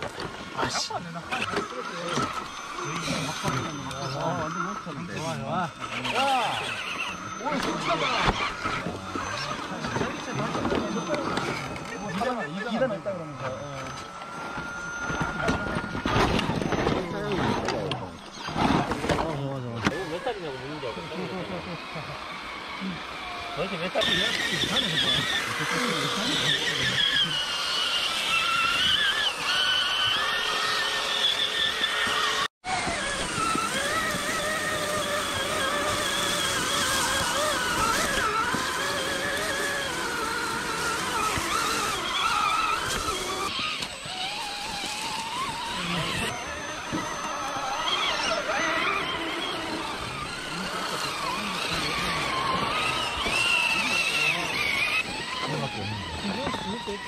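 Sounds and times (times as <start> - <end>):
electric motors whining: 0.0 - 57.0
tyres scrabbling on rock: 5.2 - 12.8, 13.5 - 20.2, 24.0 - 57.0.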